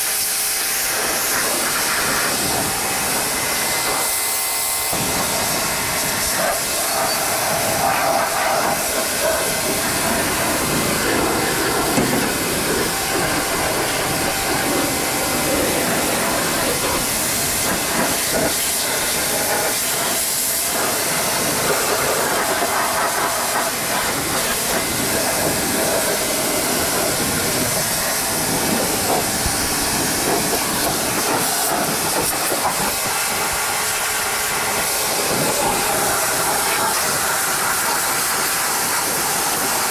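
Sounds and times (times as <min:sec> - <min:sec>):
pressure washer spraying metal: 0:00.0 - 0:39.9.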